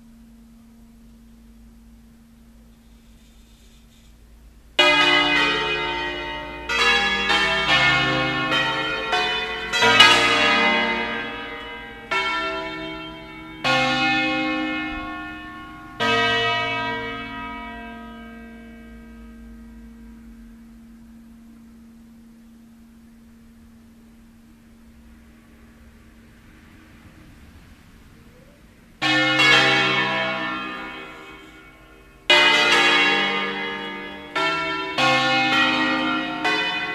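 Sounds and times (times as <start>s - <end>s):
church bells ringing: 4.2s - 36.9s.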